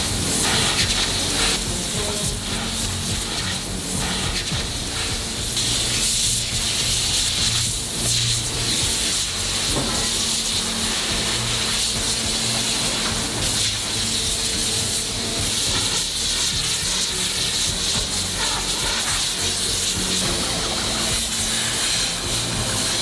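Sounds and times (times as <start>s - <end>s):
steady hissing: 0.0s - 23.0s.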